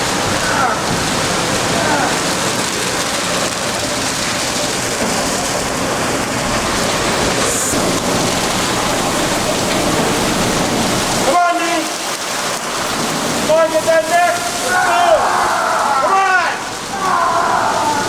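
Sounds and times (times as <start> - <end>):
water jets rushing: 0.0 - 18.0.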